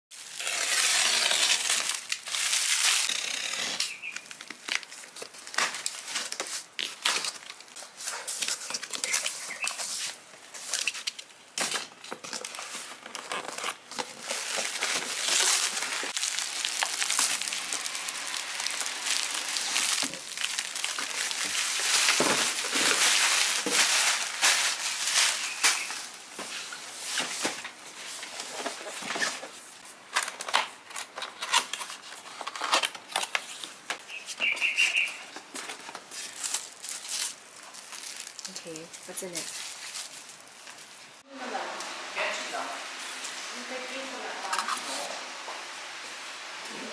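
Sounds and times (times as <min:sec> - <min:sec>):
plastic stretch wrap crinkling: 0:00.1 - 0:41.2.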